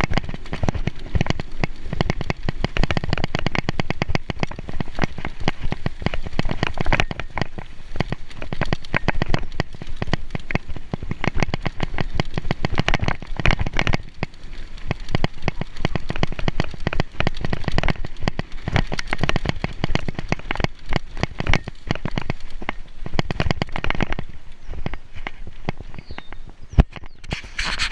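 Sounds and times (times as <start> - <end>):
mountain bike clattering on trail: 0.0 - 27.9.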